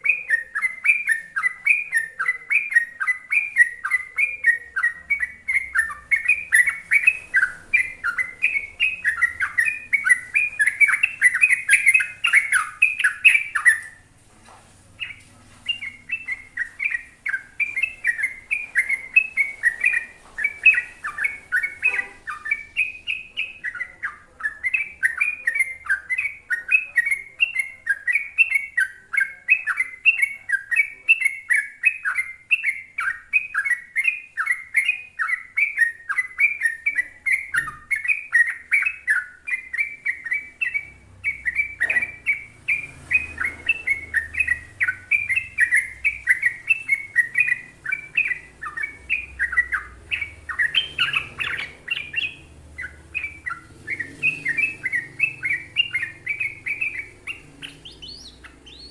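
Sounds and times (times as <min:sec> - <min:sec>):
bird chattering song: 0:00.0 - 0:58.9.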